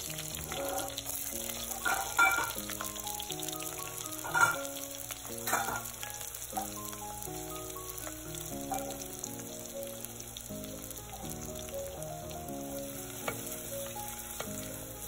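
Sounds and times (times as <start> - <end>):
onions sizzling in hot oil: 0.0 - 15.0
soft background music: 0.0 - 15.0.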